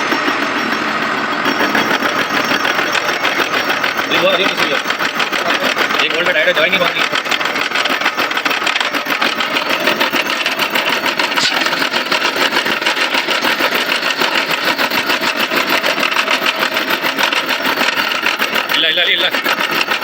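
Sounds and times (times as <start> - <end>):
lathe running with mechanical rattle: 0.0 - 20.0.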